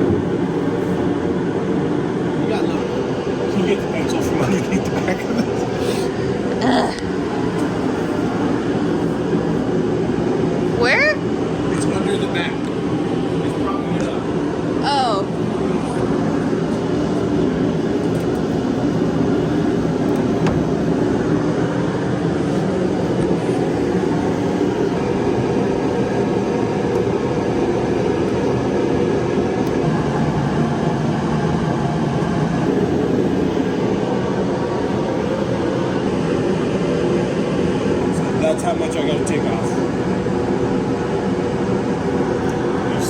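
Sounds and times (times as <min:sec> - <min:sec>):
mechanical drone with low hum: 0:00.0 - 0:43.0.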